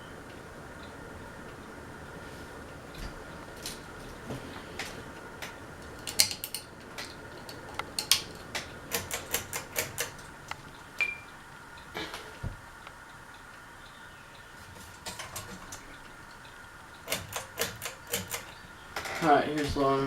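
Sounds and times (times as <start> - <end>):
ceiling fan hum: 0.0 - 20.0
fan clicking and ticking: 0.0 - 20.0.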